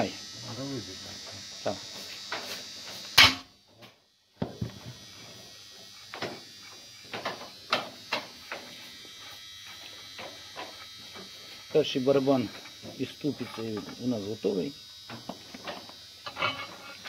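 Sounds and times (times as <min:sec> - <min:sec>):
high-pitched hum: 0:00.0 - 0:17.0.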